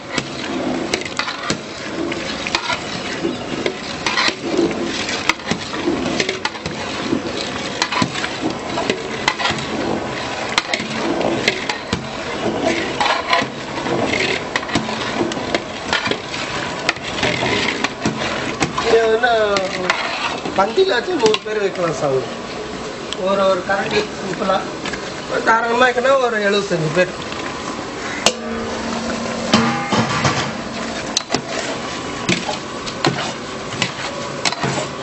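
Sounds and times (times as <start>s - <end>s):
ladle scraping a pot: 0.0s - 21.5s, 27.3s - 35.0s.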